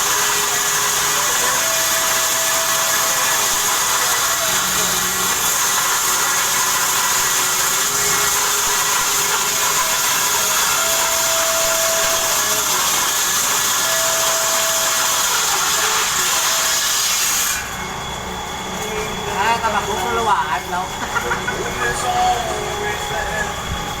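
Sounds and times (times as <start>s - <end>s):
power tool motor running: 0.0s - 24.0s.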